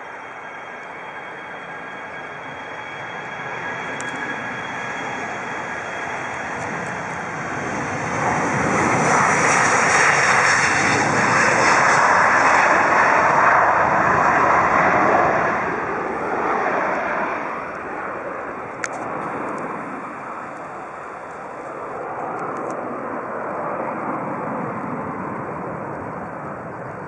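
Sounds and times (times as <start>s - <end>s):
high engine whine: 0.0s - 27.0s
jet engines at takeoff: 0.0s - 27.0s.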